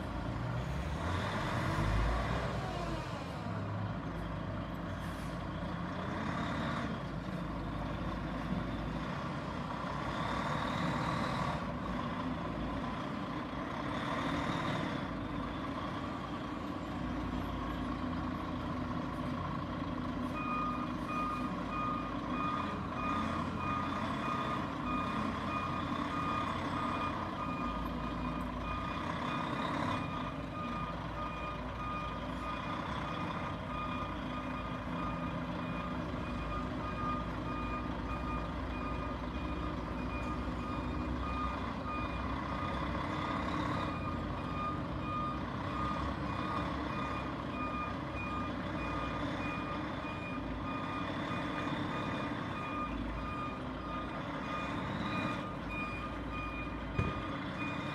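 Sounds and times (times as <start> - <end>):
truck reversing alarm beeping: 0.0 - 57.9.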